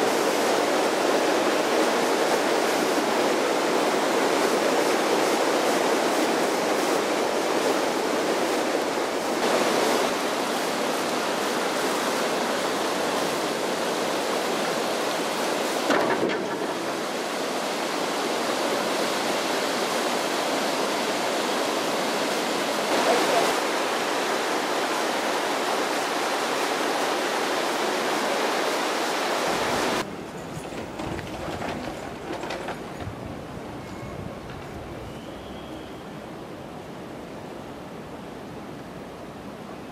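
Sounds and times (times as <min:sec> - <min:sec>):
water rushing through sluices: 0:00.0 - 0:35.8.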